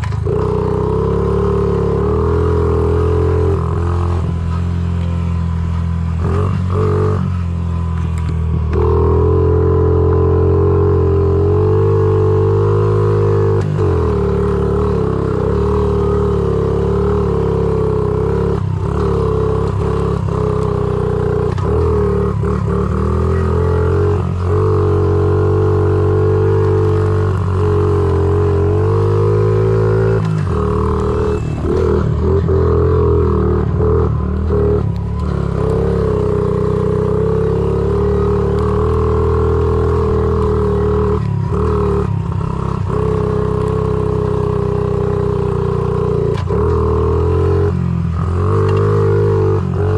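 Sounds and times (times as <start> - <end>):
small motorbike engine revving: 0.0 - 49.9.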